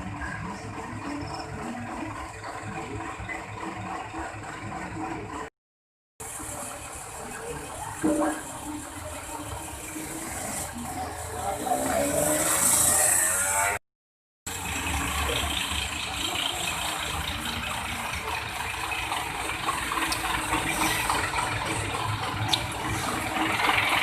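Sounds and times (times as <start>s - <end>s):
bus engine rumble: 0.0s - 5.5s, 6.2s - 13.8s, 14.5s - 24.0s.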